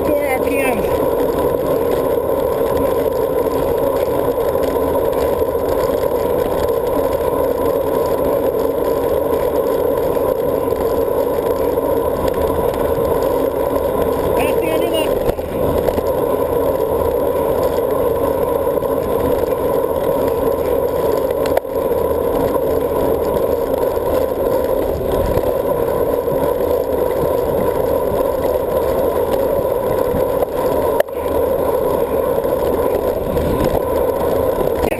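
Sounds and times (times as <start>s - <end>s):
wind and tyre noise: 0.0s - 34.9s.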